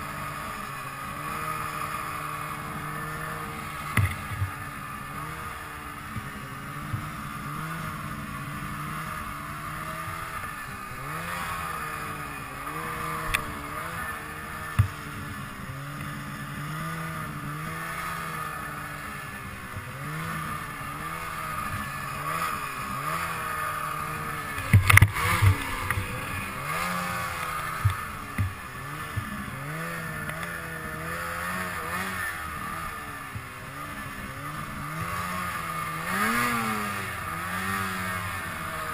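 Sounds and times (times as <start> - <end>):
snowmobile engine revving: 0.0 - 38.9.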